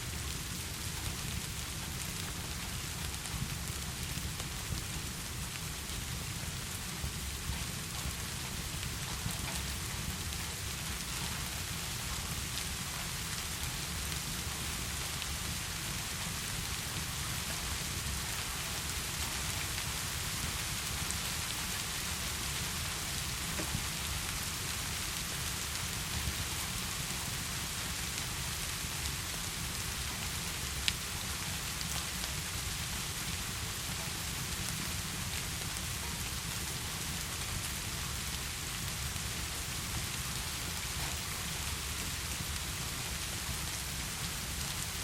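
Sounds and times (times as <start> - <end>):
heavy rain falling: 0.1 - 45.0.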